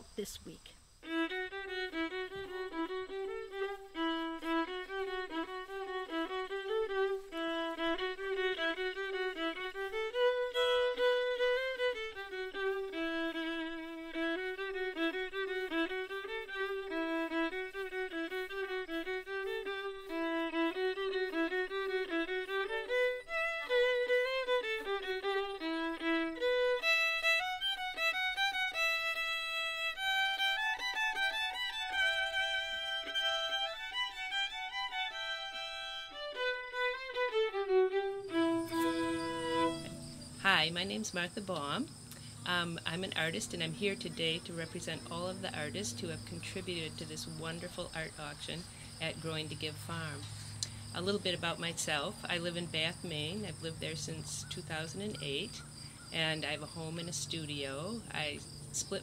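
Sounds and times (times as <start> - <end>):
violin playing a melody: 1.0 - 55.6, 56.2 - 59.0
second violin playing along: 1.0 - 59.0.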